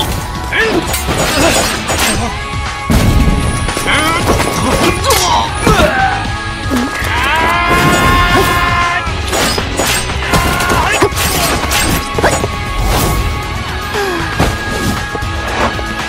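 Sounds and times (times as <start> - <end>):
fight scene music: 0.0 - 16.0.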